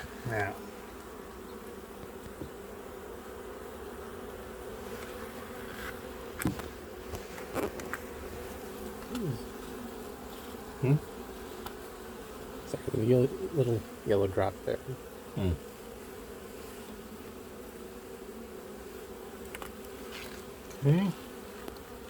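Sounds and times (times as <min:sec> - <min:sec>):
honeybees humming: 0:00.0 - 0:22.0
single bee buzzing past: 0:00.0 - 0:22.0.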